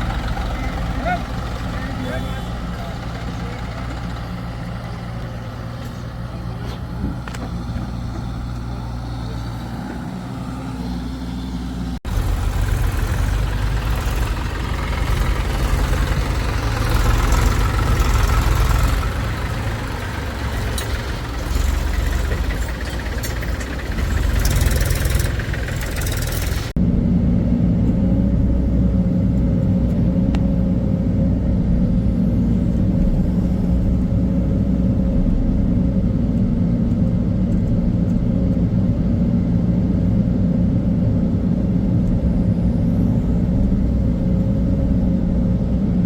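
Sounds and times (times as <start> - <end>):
diesel machinery engine running: 0.0 - 46.0.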